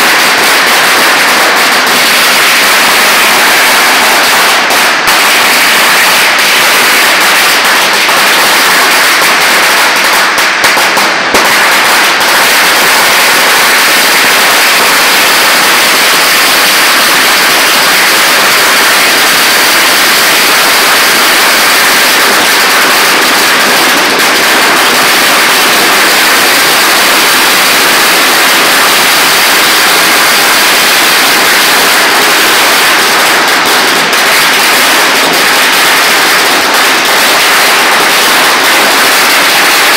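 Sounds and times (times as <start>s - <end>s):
firecrackers rattling continuously: 0.0s - 39.9s.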